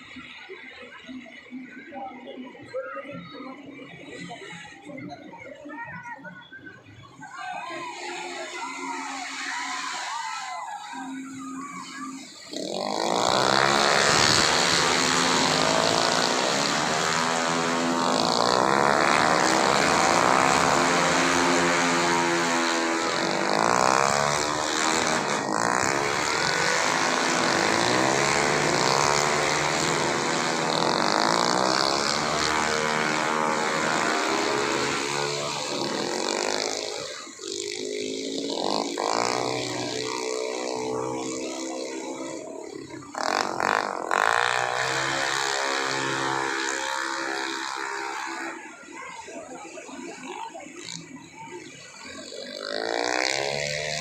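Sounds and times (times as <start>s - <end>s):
scooter engines racing: 0.0s - 54.0s.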